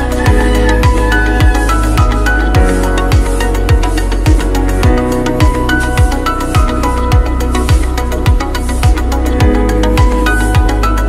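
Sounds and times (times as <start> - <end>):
electronic music: 0.0 - 11.0
held synth notes: 0.0 - 11.0
kick drum beat: 0.3 - 10.8.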